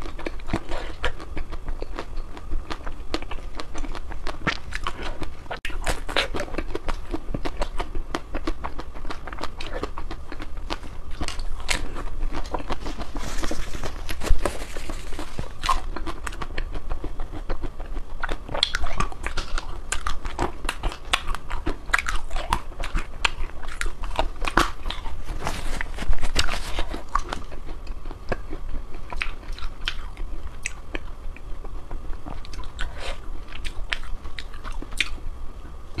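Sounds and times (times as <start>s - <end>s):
person chewing crunchy ice cream: 0.0s - 35.2s.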